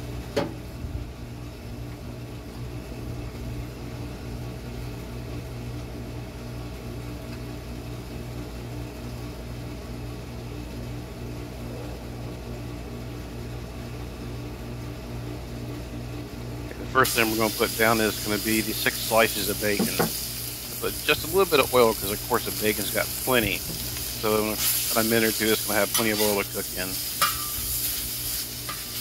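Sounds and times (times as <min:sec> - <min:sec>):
pool pump motor humming: 0:00.0 - 0:29.0.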